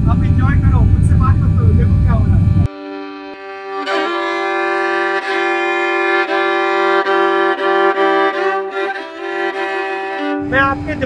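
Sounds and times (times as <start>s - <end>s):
steady low tone: 0.0s - 11.0s
music of long held notes: 1.0s - 11.0s.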